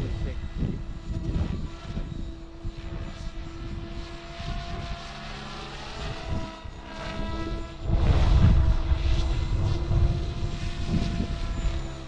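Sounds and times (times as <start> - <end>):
rc helicopter motor whine: 0.0 - 12.0
wind on microphone: 0.0 - 12.0.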